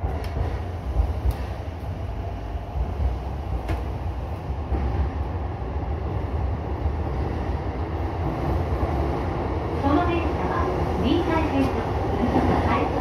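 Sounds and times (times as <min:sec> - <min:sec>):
train rumbling in a tunnel: 0:00.0 - 0:13.0.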